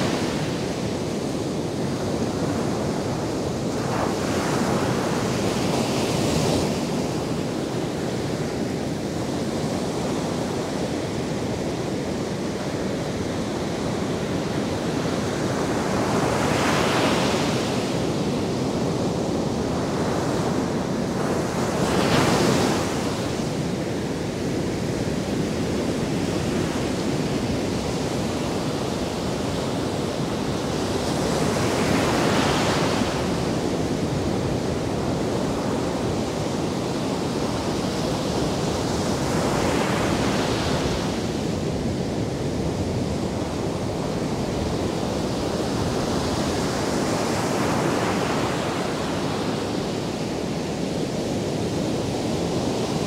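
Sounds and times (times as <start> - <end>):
surf waves breaking on beach: 0.0 - 53.0.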